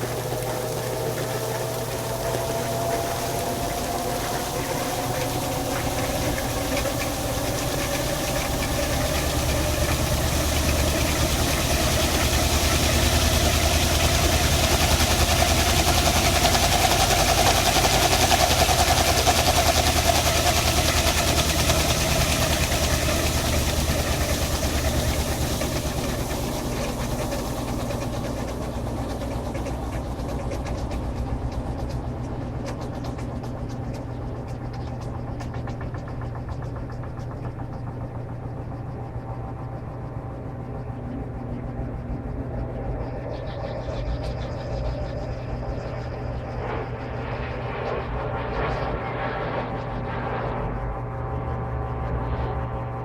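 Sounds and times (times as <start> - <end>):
washing machine spinning: 0.0 - 48.8.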